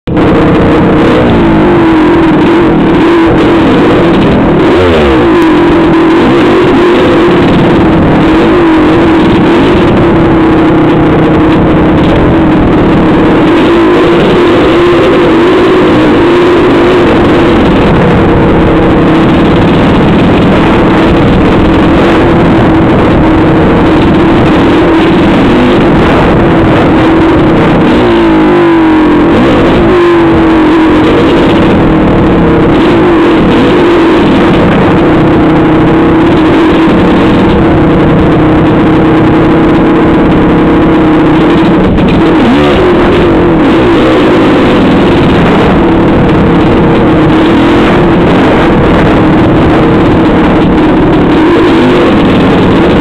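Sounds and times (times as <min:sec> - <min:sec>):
motor engine running: 0:00.0 - 0:53.0.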